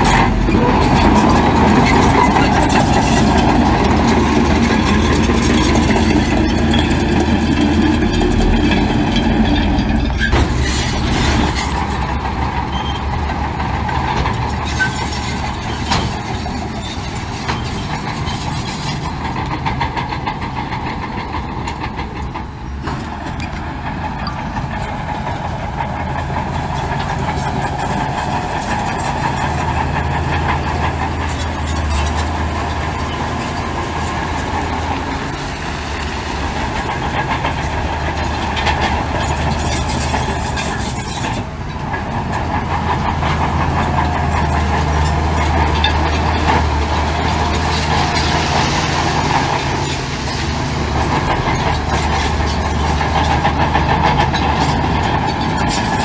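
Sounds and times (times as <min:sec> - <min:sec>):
diesel machinery engine drone: 0:00.0 - 0:56.0
metallic rattling and clanking: 0:00.0 - 0:56.0.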